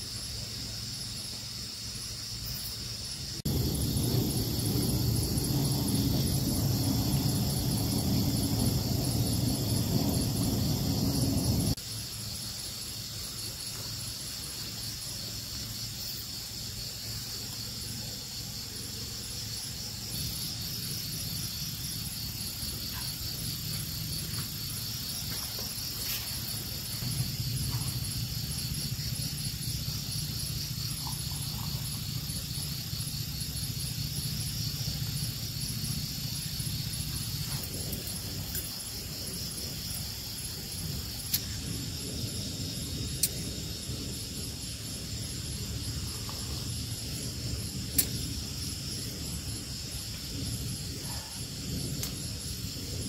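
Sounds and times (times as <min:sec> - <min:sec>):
crickets chirping: 0:00.0 - 0:53.0
low steady rumble: 0:03.4 - 0:11.8, 0:17.3 - 0:53.0.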